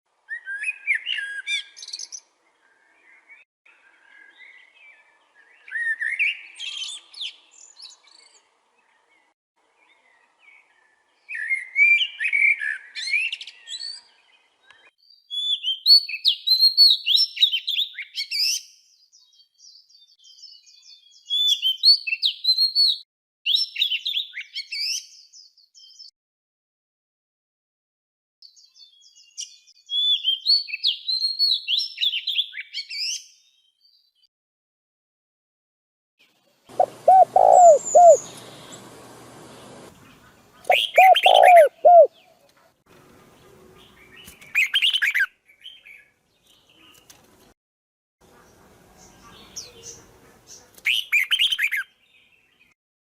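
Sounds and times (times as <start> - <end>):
songbirds singing: 0.3 - 26.1, 28.4 - 34.3, 36.2 - 47.5, 48.2 - 52.8.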